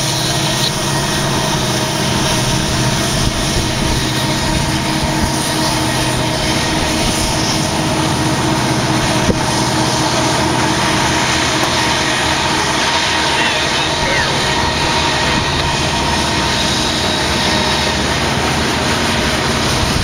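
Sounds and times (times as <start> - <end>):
diesel locomotives running hard: 0.0 - 20.0
freight cars rumbling over rails: 0.0 - 20.0.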